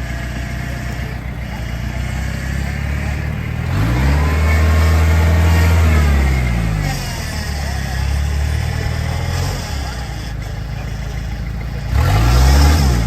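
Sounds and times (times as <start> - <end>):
engine idling and revving: 0.0 - 13.0.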